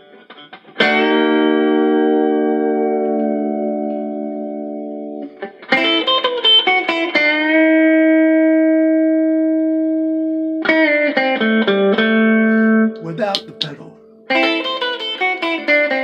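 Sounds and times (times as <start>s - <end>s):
electric guitar notes: 0.0s - 16.0s.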